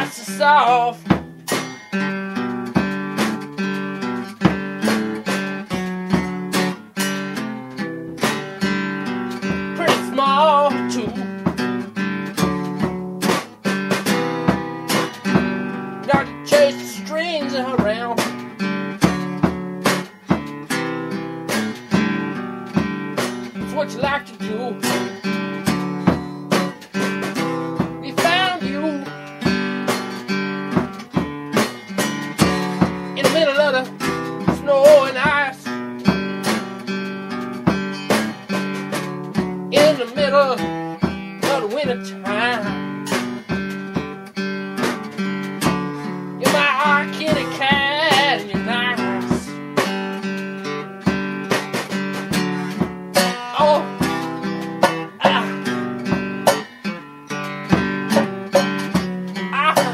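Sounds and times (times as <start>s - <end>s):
acoustic guitar plucked and strummed: 0.0s - 59.9s.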